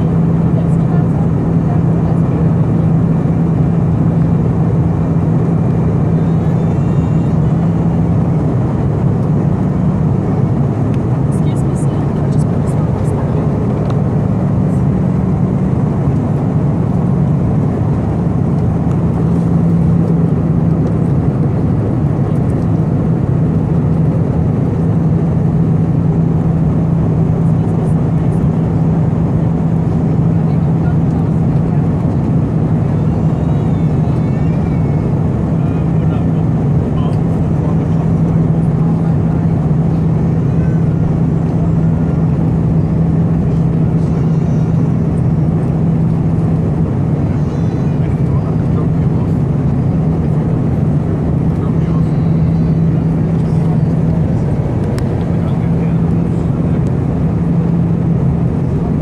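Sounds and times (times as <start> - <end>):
airliner cabin engine roar: 0.0 - 59.0
low hum: 0.0 - 59.0.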